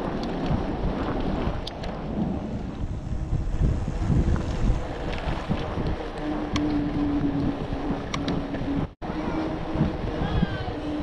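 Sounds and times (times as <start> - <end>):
wind buffeting microphone: 0.0 - 11.0
steady hum: 2.1 - 11.0.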